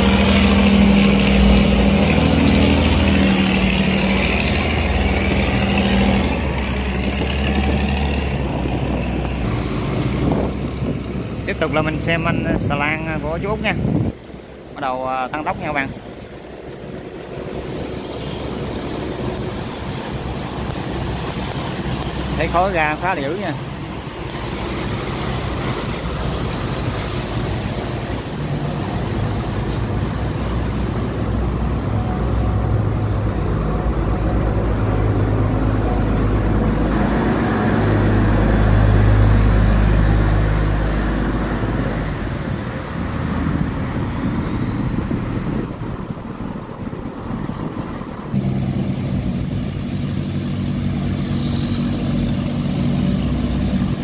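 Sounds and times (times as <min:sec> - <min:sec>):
barge diesel engine running hard: 0:00.0 - 0:54.0
boat engine starting: 0:00.0 - 0:54.0
water churning along hull: 0:00.0 - 0:54.0.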